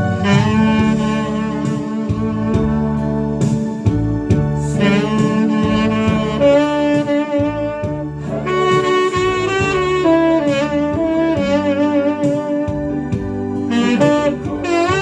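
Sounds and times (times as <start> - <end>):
bass: 0.0 - 15.0
steady drum beat: 0.0 - 15.0
tenor saxophone ballad melody: 0.0 - 15.0.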